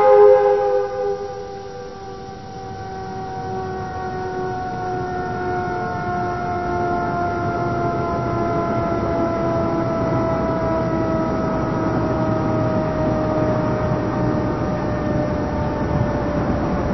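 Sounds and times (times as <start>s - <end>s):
low rumbling hum: 0.0s - 16.9s
warning siren chord: 0.0s - 16.9s.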